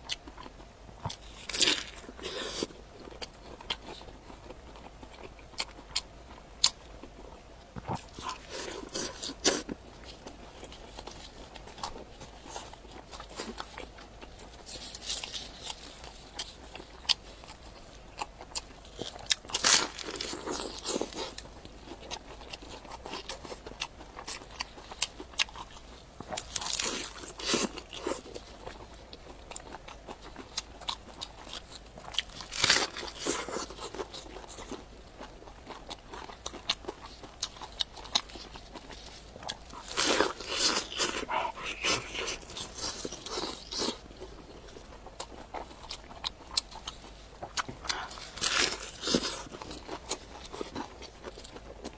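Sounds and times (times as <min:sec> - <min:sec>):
crunchy biting and chewing: 0:00.0 - 0:51.9.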